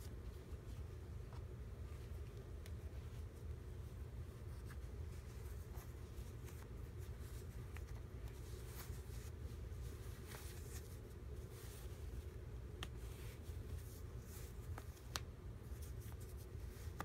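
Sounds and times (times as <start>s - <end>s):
socks rustling on feet: 0.0s - 17.0s.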